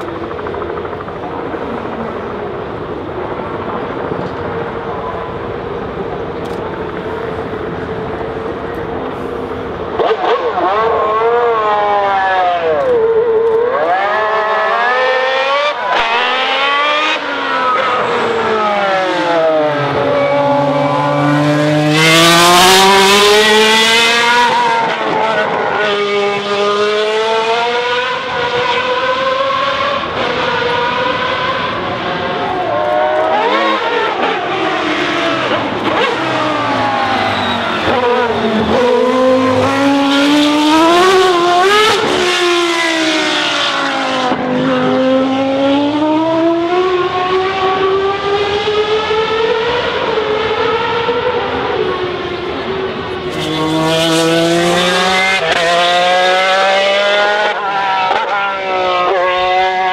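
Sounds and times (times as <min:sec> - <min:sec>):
racing car engine revving: 0:09.6 - 0:59.9.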